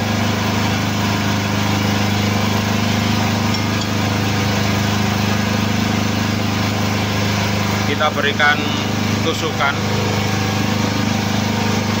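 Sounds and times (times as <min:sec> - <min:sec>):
hydraulic pump motor humming: 0:00.0 - 0:12.0.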